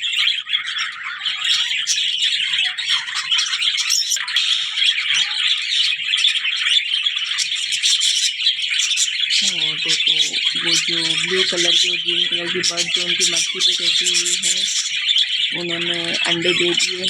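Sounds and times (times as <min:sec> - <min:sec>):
small birds chattering and chirping: 0:00.0 - 0:17.0.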